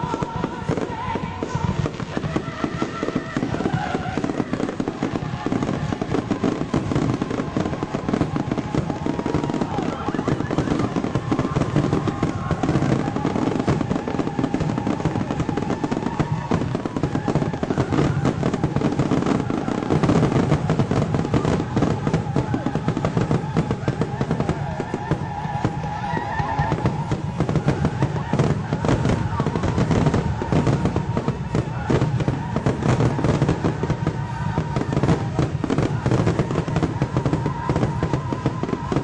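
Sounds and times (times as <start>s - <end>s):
fireworks bursting and crackling: 0.0s - 39.0s.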